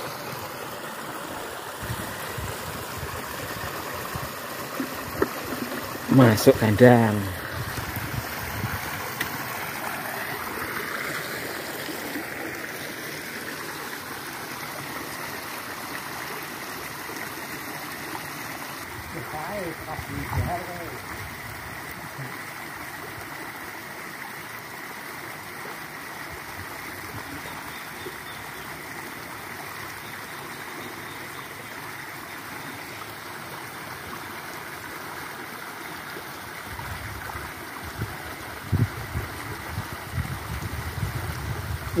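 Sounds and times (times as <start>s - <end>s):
stream rippling and gurgling: 0.0s - 42.0s.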